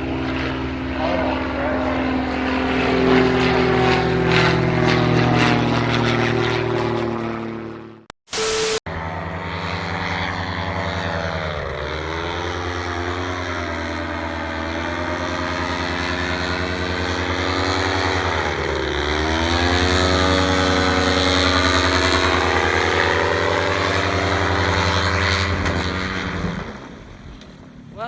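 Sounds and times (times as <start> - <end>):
propeller aircraft engine: 0.0 - 28.0.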